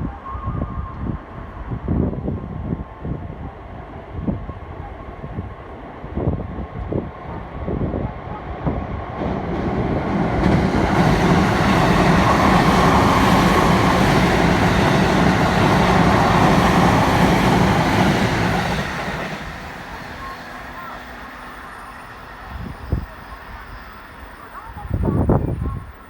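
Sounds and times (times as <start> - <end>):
train rumbling past: 1.2 - 26.0.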